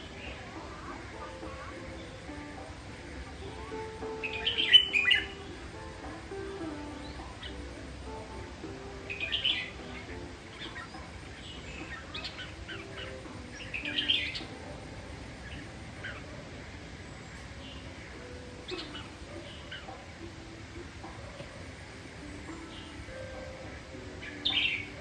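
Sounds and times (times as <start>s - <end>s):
bird chirping: 0.0s - 25.0s
soft background music: 0.0s - 25.0s.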